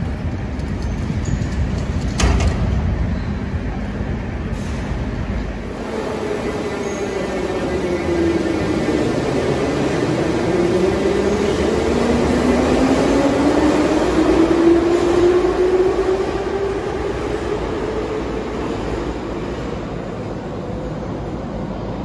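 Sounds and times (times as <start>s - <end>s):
metro train electronic whine: 0.0s - 22.0s
train running rumble: 0.0s - 22.0s.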